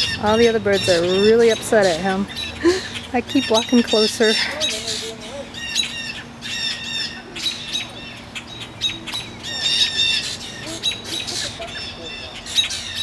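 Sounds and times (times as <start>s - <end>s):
songbird alarm calls: 0.0s - 13.0s.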